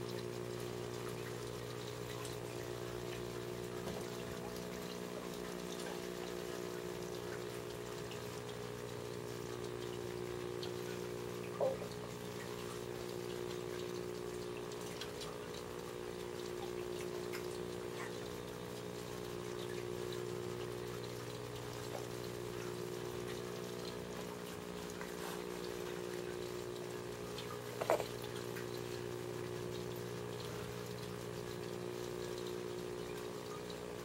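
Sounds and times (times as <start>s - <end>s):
aquarium filter motor hum: 0.0s - 34.0s
water trickling and splashing: 0.0s - 34.0s.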